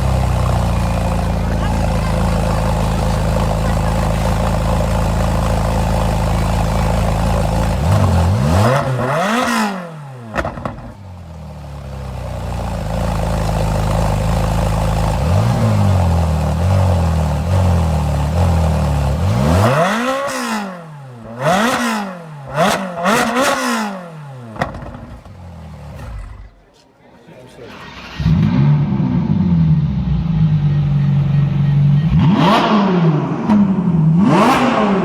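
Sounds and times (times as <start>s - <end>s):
car engine revving: 0.0s - 26.7s, 27.6s - 35.0s.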